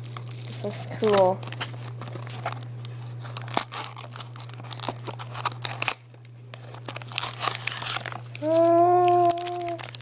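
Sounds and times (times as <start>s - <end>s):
paper and plastic crinkling: 0.0s - 10.0s
steady low hum: 0.0s - 10.0s.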